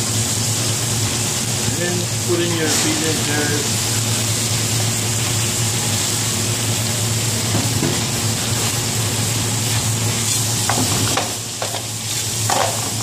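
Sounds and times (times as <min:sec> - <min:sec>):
food sizzling in fat: 0:00.0 - 0:13.0.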